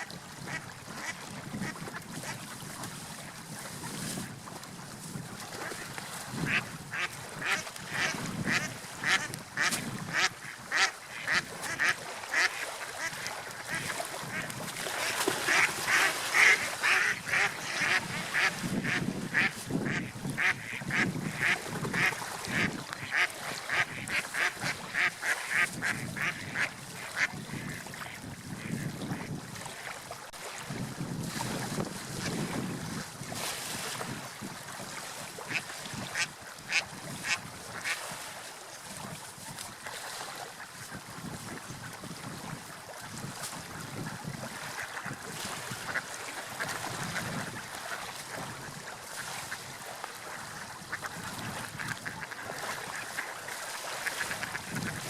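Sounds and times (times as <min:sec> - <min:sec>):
sea waves washing: 0:00.0 - 0:55.0.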